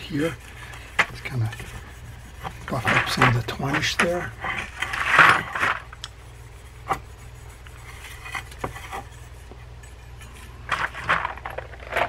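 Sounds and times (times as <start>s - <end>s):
steel wool rubbing on metal: 0.0s - 11.0s.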